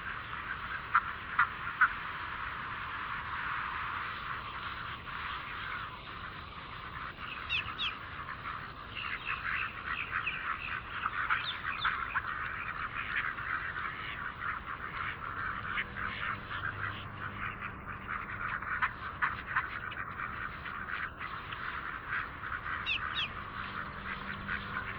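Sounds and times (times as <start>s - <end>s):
ducks quacking: 0.0s - 24.9s.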